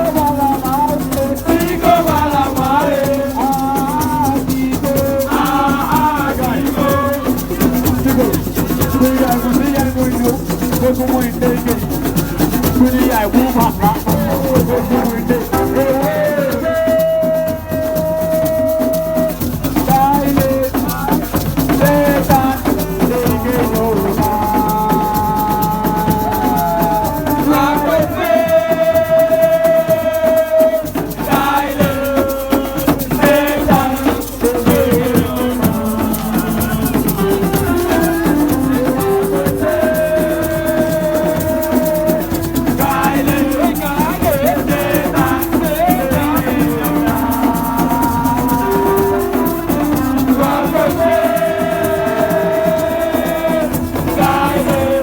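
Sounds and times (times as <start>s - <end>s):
drums: 0.0s - 55.0s
shaker rattle: 0.0s - 55.0s.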